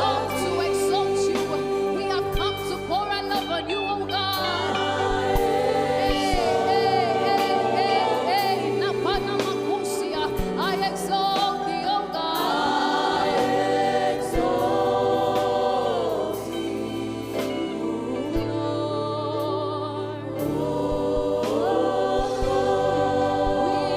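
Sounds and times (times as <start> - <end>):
voices singing gospel: 0.0 - 23.9.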